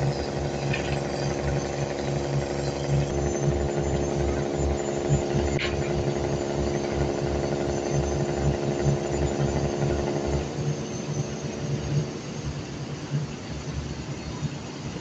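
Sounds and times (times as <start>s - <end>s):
machinery engine humming: 0.0s - 15.0s.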